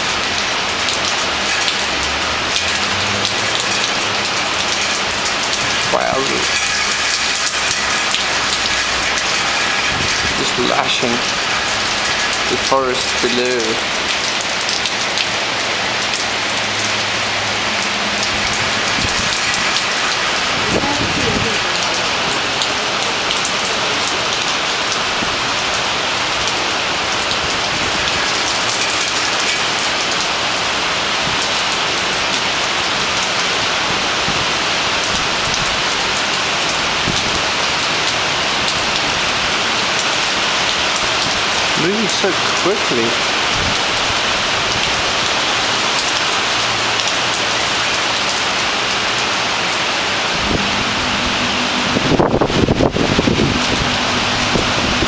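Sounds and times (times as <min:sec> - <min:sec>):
heavy rain on trees and roofs: 0:00.0 - 0:55.0.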